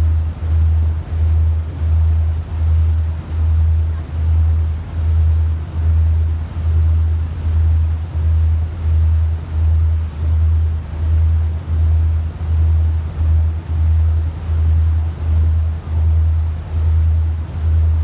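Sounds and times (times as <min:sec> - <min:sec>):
motorboat engine throbbing: 0:00.0 - 0:18.0
water rushing along hull: 0:00.0 - 0:18.0.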